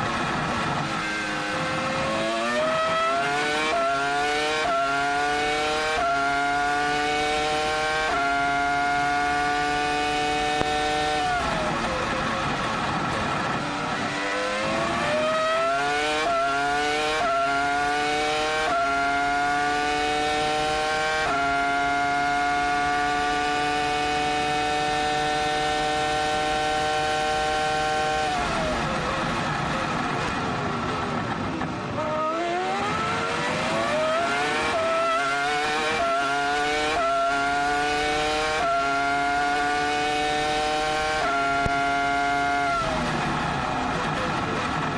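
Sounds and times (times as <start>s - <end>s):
racing engine at full throttle: 0.0s - 44.9s.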